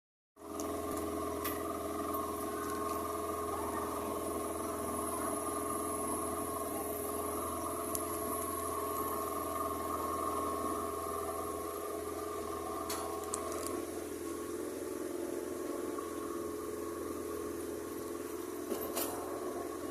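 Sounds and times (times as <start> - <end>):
motorboat engine droning: 0.4 - 19.9
water noise from hull: 0.4 - 19.9.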